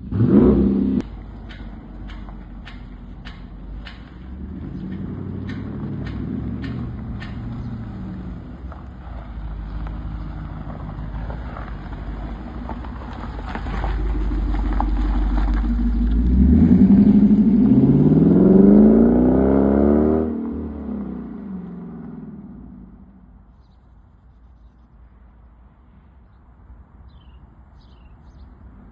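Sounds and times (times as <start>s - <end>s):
car engine idling and revving: 0.0s - 23.8s.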